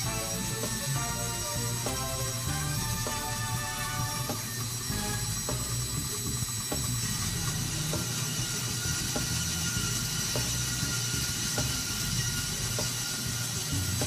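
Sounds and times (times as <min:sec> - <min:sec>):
bandsaw cutting metal hiss: 0:00.0 - 0:14.0
low machine hum: 0:00.0 - 0:14.0.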